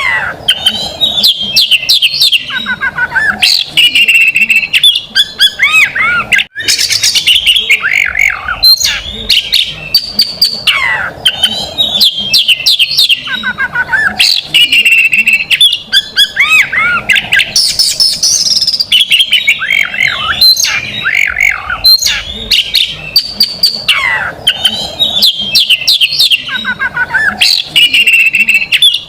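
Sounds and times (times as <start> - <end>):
magpie-robin singing: 0.0 - 29.0.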